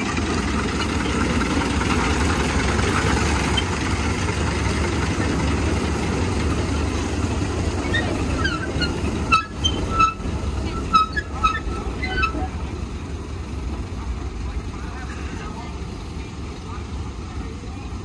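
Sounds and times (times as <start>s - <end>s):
steam locomotive chugging: 0.0s - 18.0s
wheels squeaking on rails: 0.0s - 18.0s.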